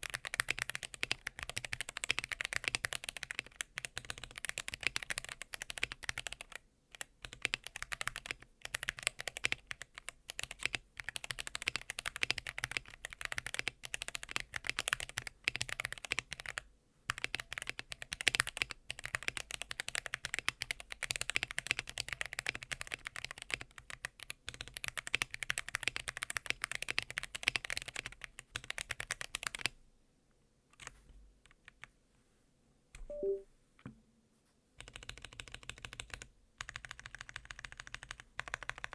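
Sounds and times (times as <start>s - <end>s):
mechanical keyboard typing: 0.0s - 29.7s, 34.8s - 38.9s.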